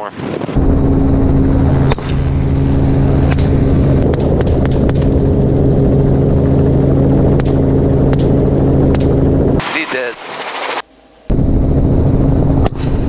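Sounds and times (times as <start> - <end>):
helicopter turbine and rotor drone: 0.0 - 13.0.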